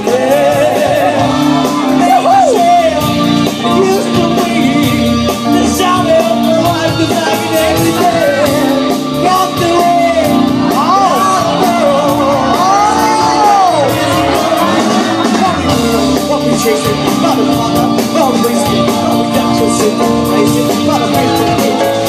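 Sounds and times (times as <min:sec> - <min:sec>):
live band playing upbeat song: 0:00.0 - 0:22.0.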